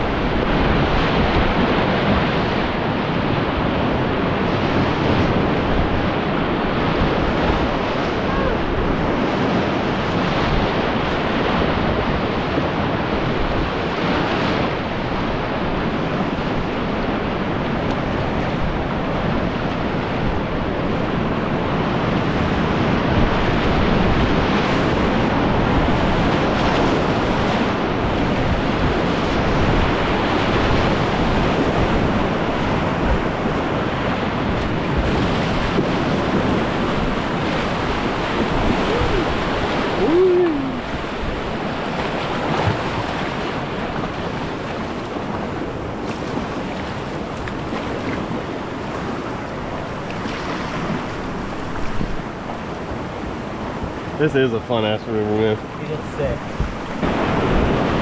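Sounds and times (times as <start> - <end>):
wind buffeting microphone: 0.0 - 54.5, 55.2 - 58.0
rushing whitewater: 0.0 - 58.0.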